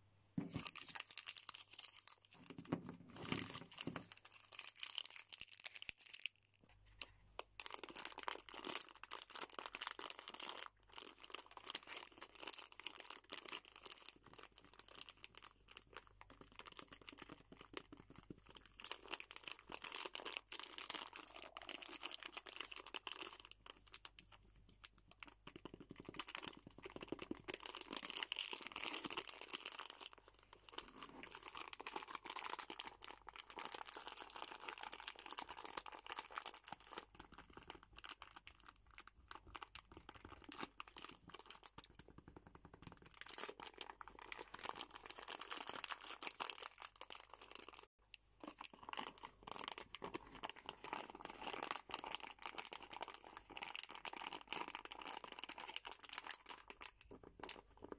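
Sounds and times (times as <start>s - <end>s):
plastic snack wrapper crinkling: 0.4s - 57.9s
plastic wet wipes pack crinkling: 0.4s - 57.9s.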